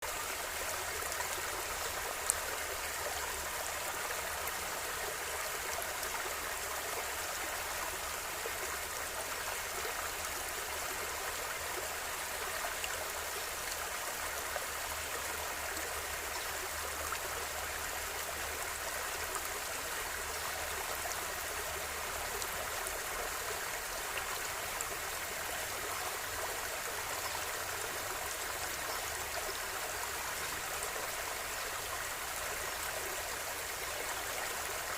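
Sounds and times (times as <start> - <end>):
river flowing over stones: 0.0 - 34.9.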